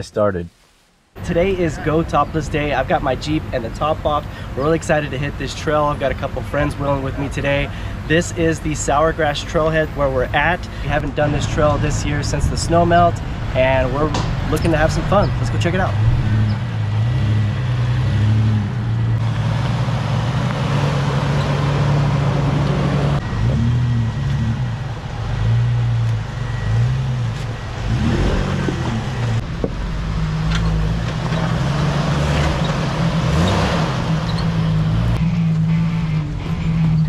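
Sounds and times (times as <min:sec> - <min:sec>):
off-road vehicle engines revving: 0:01.2 - 0:37.0.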